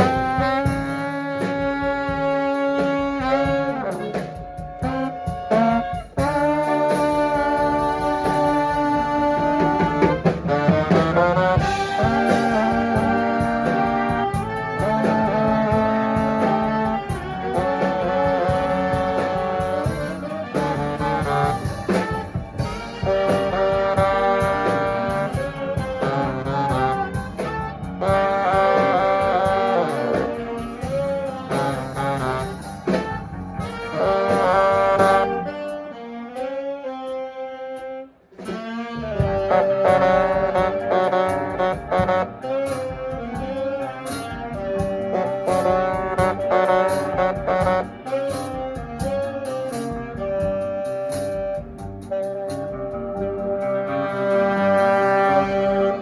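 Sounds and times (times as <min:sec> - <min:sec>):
saxophone melody: 0:00.0 - 0:56.0
swing band playing: 0:00.0 - 0:56.0.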